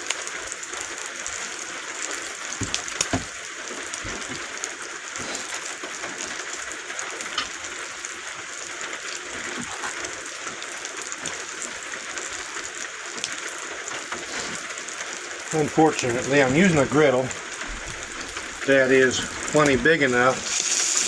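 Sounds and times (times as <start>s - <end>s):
bacon sizzling on a griddle: 0.0s - 21.0s.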